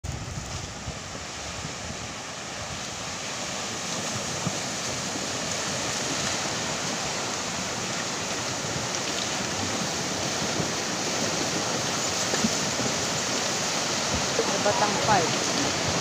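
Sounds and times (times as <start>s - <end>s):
flood water rushing down stream: 0.0s - 16.0s.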